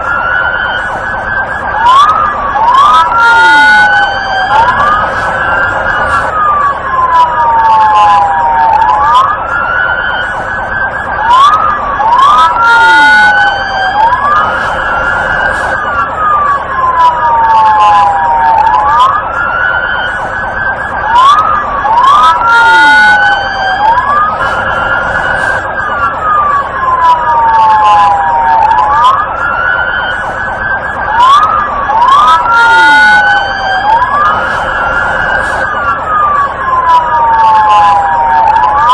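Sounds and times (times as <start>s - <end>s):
police car siren wailing: 0.0s - 38.9s.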